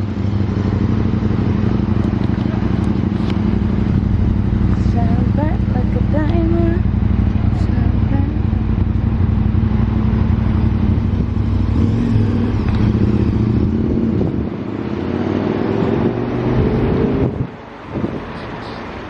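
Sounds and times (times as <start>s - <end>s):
car engine running at low speed: 0.0s - 19.0s.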